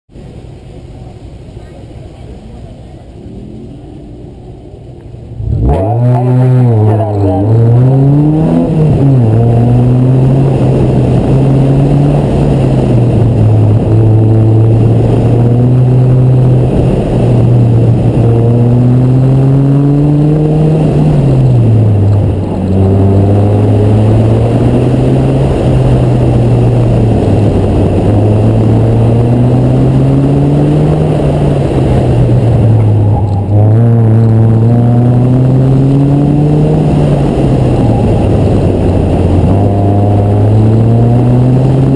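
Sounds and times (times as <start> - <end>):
car engine revving hard: 5.4 - 41.9.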